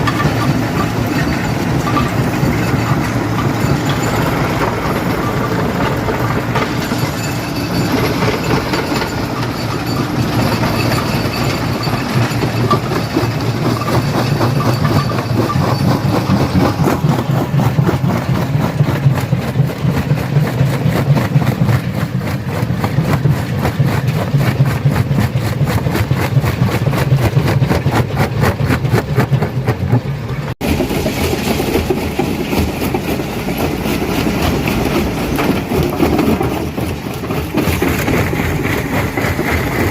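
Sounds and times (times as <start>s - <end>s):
stone crusher crushing rock: 0.0s - 30.0s, 30.6s - 39.9s.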